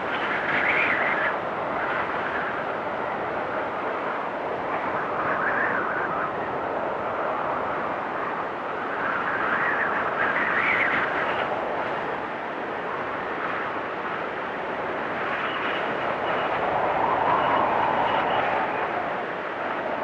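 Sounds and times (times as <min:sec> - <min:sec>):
storm wind gusting: 0:00.0 - 0:20.0.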